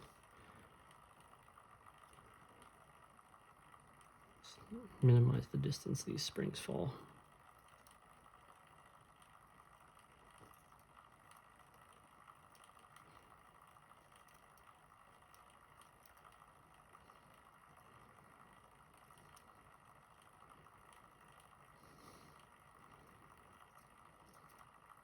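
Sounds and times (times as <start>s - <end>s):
faint ticks: 0.0s - 4.5s, 7.1s - 25.0s.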